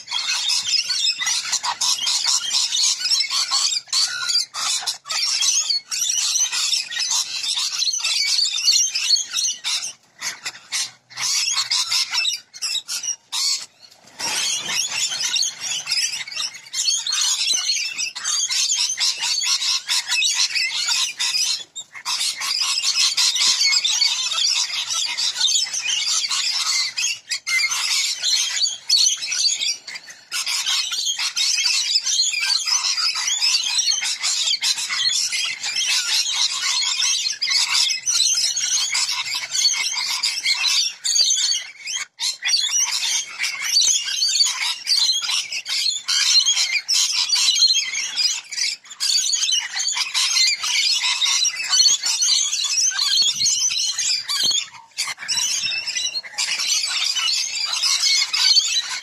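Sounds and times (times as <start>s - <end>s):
flock of lorikeets screeching: 0.0s - 59.0s.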